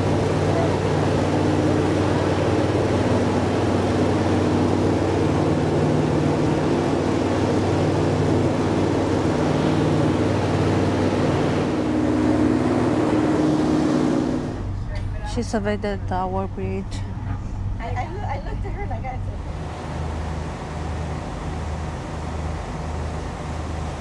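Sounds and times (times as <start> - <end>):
water rushing: 0.0 - 14.8, 19.4 - 24.0
boat engines droning: 0.0 - 24.0
wind: 0.0 - 24.0.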